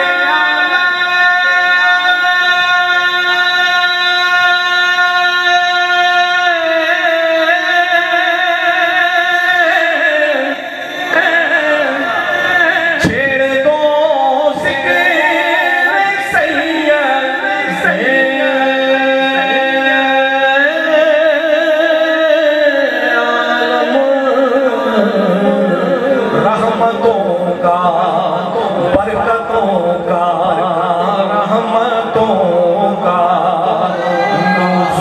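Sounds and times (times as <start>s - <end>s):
man singing into microphone: 0.0s - 35.0s.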